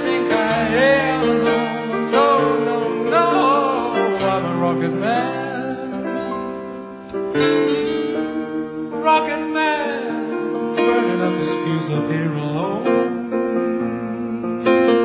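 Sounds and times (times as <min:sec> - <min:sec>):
acoustic guitar: 0:00.0 - 0:15.0
jazz combo playing: 0:00.0 - 0:15.0.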